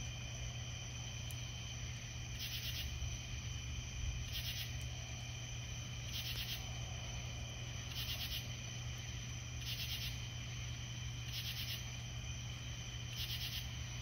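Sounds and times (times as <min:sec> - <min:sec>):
high insect drone: 0:00.0 - 0:14.0
insect trilled chirp: 0:00.0 - 0:14.0.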